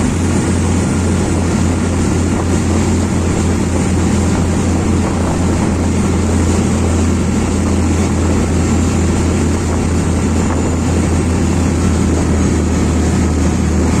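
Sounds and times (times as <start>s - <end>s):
boat engine droning: 0.0s - 14.0s
rushing noise: 0.0s - 14.0s.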